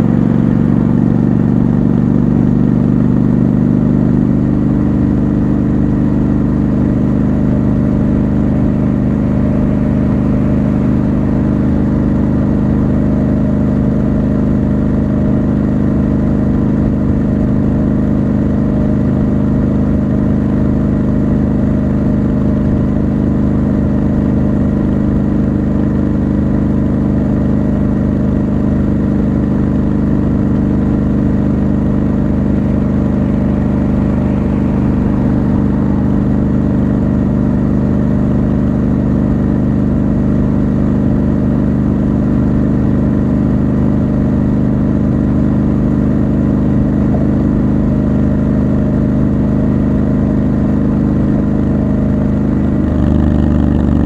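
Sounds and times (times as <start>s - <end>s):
motorcycle engine drone: 0.0s - 54.0s.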